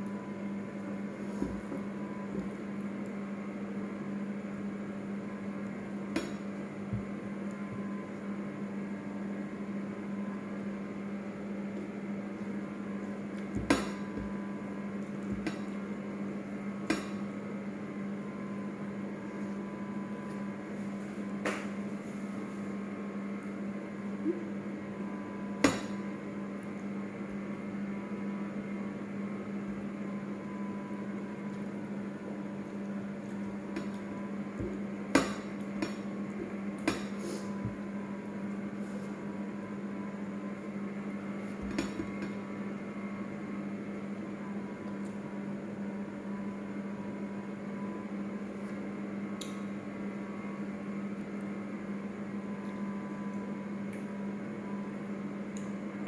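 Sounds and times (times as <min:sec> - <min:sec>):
electrical hum: 0:00.0 - 0:56.0.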